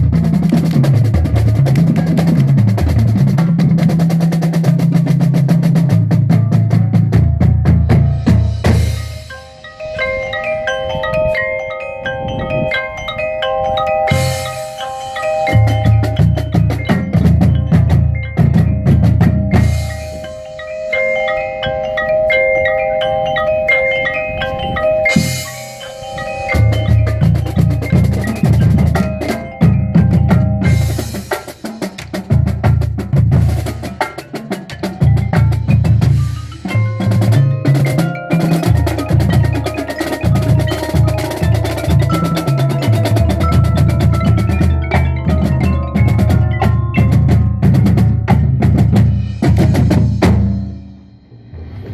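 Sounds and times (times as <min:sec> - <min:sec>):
drums: 0:00.0 - 0:51.9
marimbas playing fast passages: 0:00.0 - 0:51.9.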